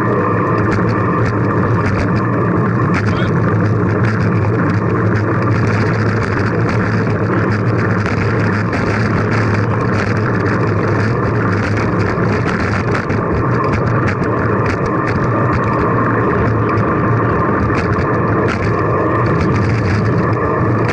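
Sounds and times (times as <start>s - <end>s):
bicycle road noise: 0.0s - 20.9s
constant low hum: 0.0s - 20.9s.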